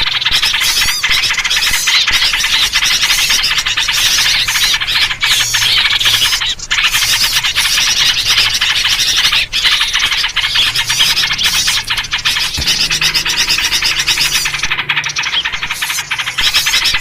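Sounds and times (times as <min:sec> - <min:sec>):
many small birds chattering: 0:00.0 - 0:17.0.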